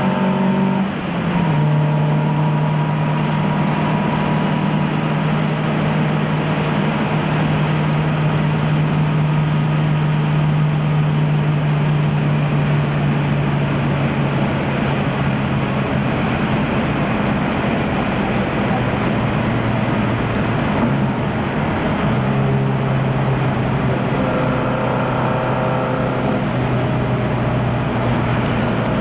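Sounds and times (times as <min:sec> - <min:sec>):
car engine shifting up: 0:00.0 - 0:29.0.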